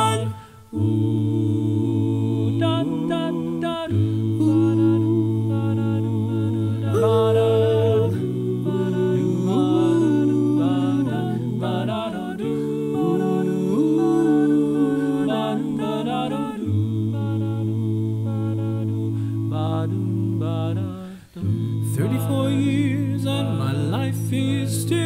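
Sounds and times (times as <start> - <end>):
a cappella harmony singing: 0.0 - 25.0.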